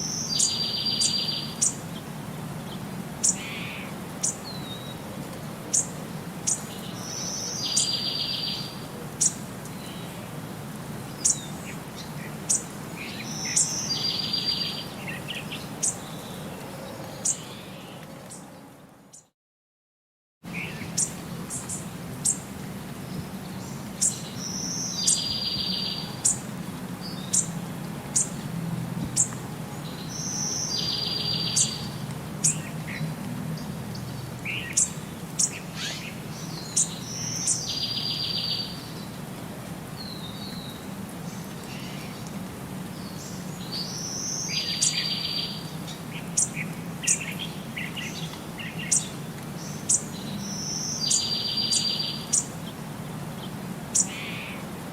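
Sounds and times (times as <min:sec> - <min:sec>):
songbird singing: 0:00.0 - 0:10.4, 0:11.0 - 0:19.3, 0:20.5 - 0:54.8.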